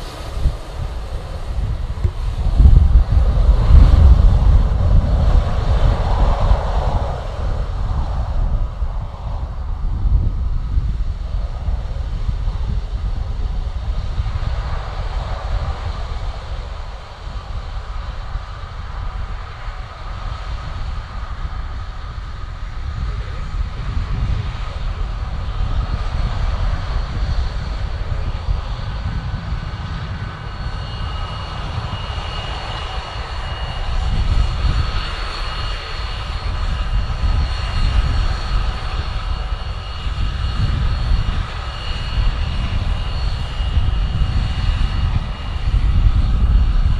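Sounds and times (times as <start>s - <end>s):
high whistling engine whine: 0.0s - 46.9s
jet engines rushing: 0.0s - 46.9s.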